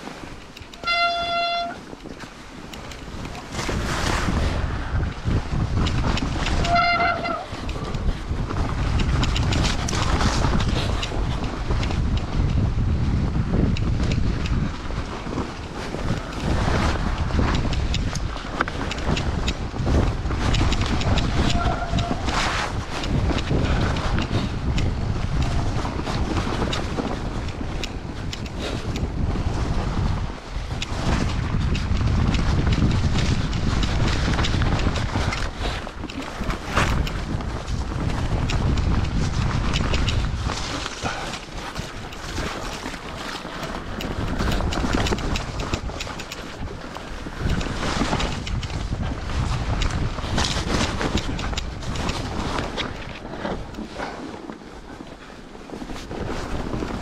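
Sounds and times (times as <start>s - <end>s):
clicks and rattles from bike: 0.0s - 57.0s
wind buffeting microphone: 0.0s - 57.0s
electric bike rumble: 1.8s - 57.0s.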